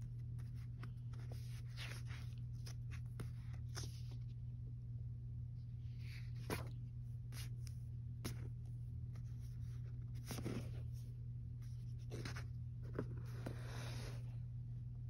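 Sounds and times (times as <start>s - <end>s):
paper pages rustling: 0.0s - 4.4s, 6.0s - 14.2s
steady low hum: 0.0s - 15.0s.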